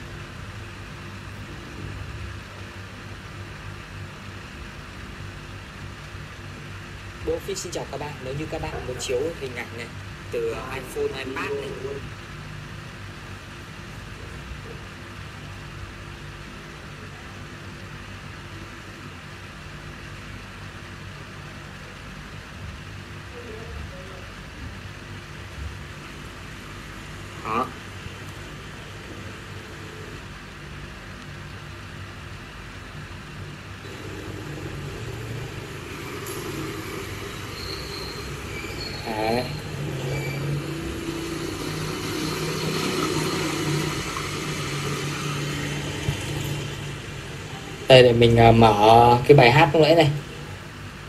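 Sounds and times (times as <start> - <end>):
speaker hiss with low hum: 0.0 - 51.0.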